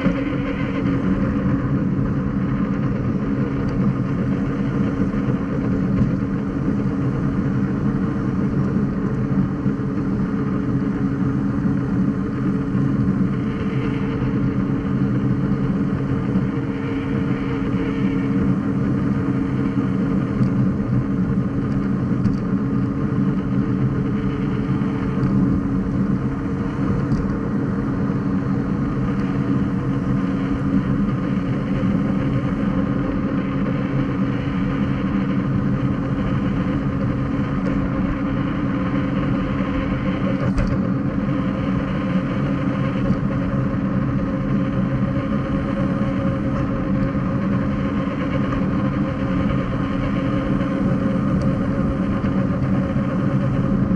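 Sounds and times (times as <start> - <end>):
electric motor hum: 0.0 - 53.9.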